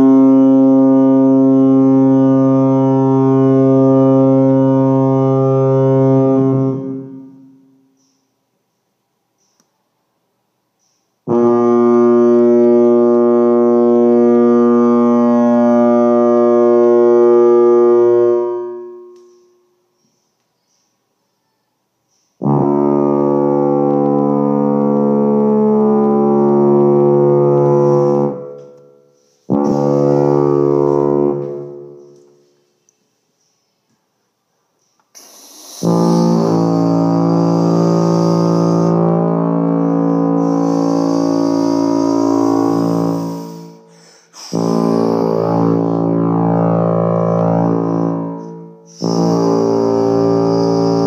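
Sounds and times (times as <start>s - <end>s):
ship's horn blasts: 0.0s - 7.9s, 11.2s - 19.7s, 22.4s - 32.5s, 35.2s - 51.0s.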